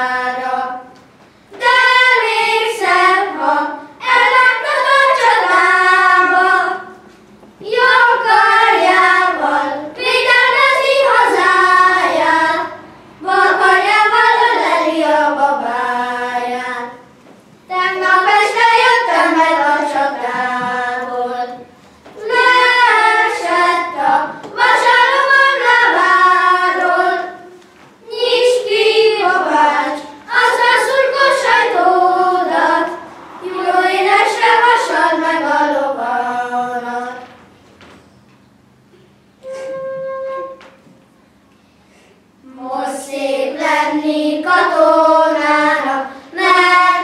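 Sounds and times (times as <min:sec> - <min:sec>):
children's choir singing: 0:00.0 - 0:37.5, 0:42.4 - 0:47.0.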